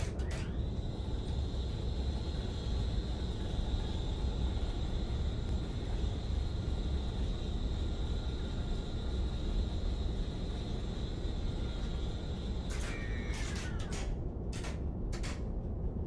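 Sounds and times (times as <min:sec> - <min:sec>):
engine drone with whine: 0:00.0 - 0:16.0.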